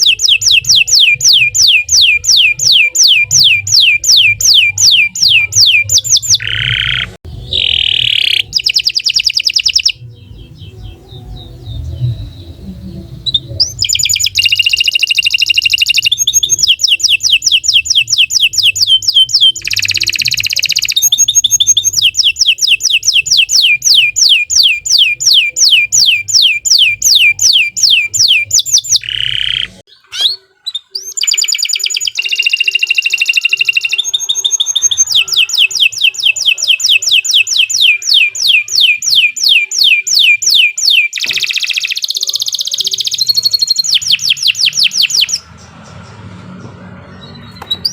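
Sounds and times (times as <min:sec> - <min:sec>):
canary singing: 0:00.0 - 0:47.9.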